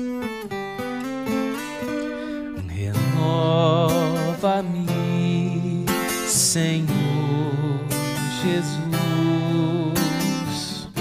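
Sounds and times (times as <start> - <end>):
guitar plucked and strummed: 0.0 - 11.0.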